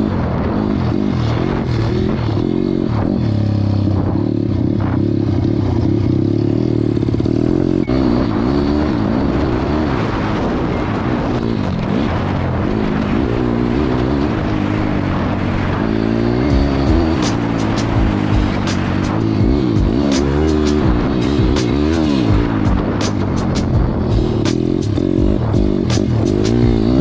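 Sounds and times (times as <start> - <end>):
pit bike engine revving: 0.0 - 27.0.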